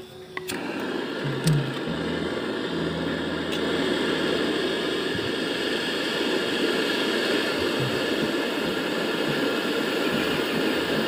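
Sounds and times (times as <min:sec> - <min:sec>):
torch flame hissing: 0:00.0 - 0:11.0
gas torch igniting pop: 0:00.4 - 0:11.0.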